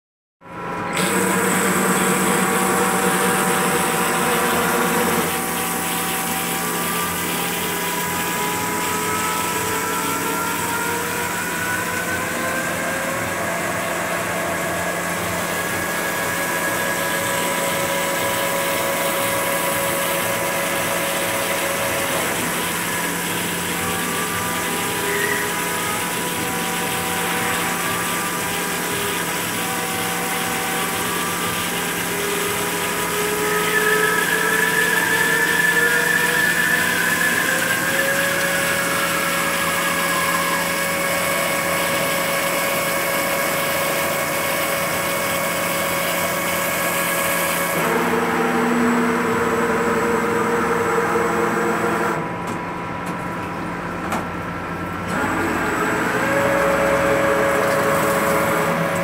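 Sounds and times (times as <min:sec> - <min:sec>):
lathe machine whine: 0:00.4 - 0:59.0.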